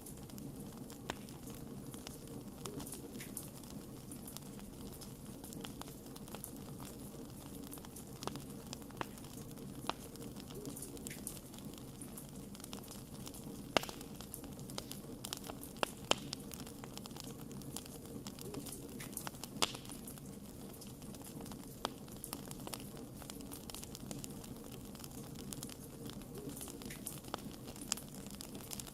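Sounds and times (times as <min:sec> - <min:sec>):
wood fire crackling and popping: 0:00.0 - 0:28.9.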